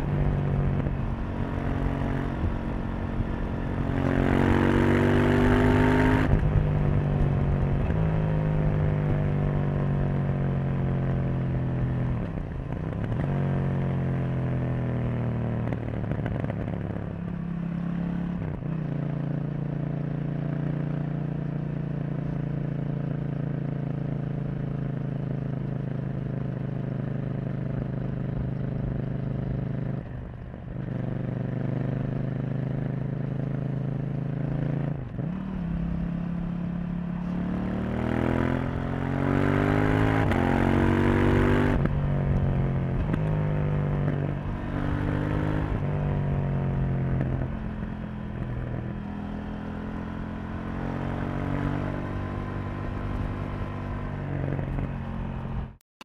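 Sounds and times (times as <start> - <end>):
motorcycle engine running: 0.0 - 55.8.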